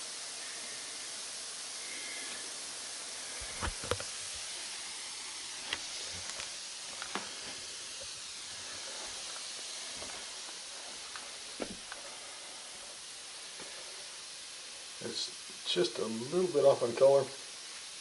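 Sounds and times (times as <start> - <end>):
steam hissing: 0.0 - 18.0.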